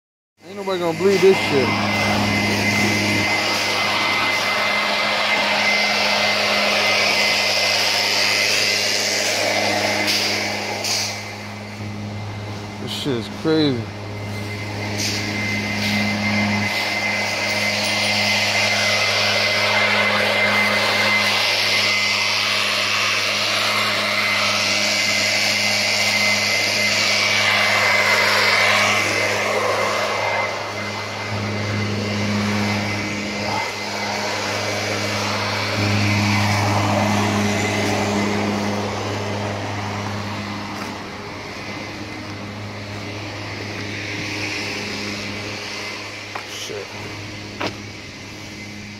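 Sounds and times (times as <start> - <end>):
leaf blower running: 0.4 - 48.9.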